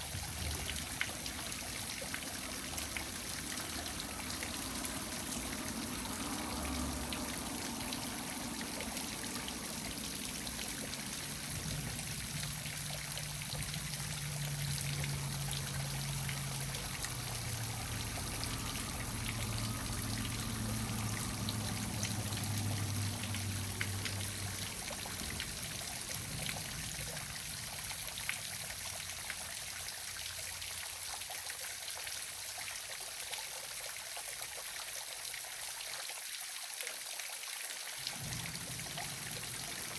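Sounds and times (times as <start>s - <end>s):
waterfall splashing: 0.0s - 31.1s, 38.0s - 39.9s.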